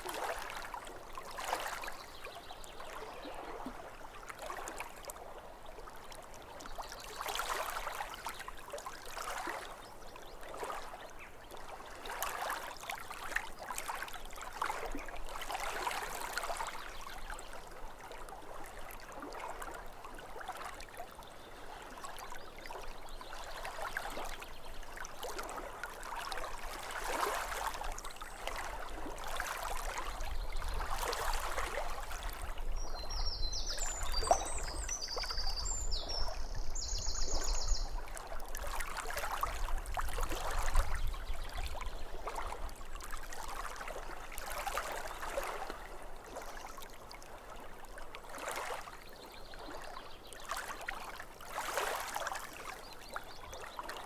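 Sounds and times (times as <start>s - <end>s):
lake water lapping at shore: 0.0s - 54.0s.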